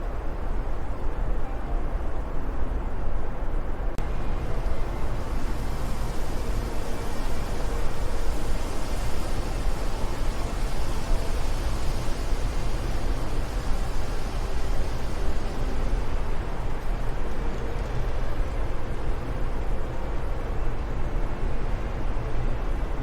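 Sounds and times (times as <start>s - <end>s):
wind blowing: 0.0s - 23.0s.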